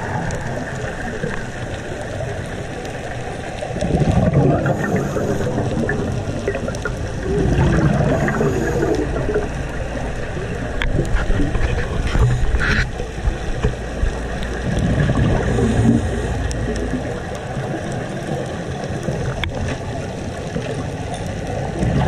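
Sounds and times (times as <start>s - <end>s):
underwater bubbling and gurgling: 0.0s - 22.0s.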